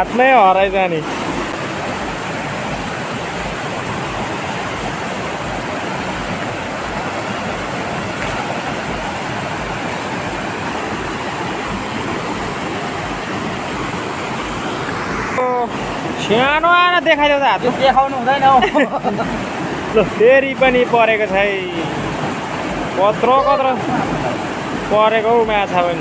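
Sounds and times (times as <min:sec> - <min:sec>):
river rushing over boulders: 0:00.0 - 0:26.0.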